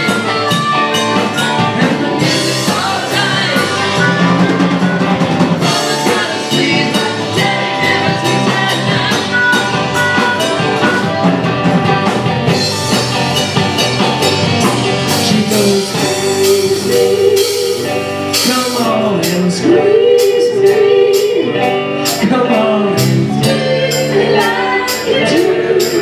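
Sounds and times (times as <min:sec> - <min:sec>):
person singing: 0:00.0 - 0:12.2, 0:14.6 - 0:26.0
drum kit: 0:00.0 - 0:26.0
electric guitars: 0:00.0 - 0:26.0.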